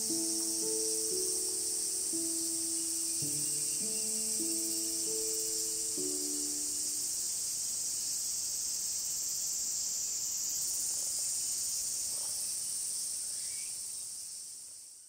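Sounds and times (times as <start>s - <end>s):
insects shrilling: 0.0s - 14.5s.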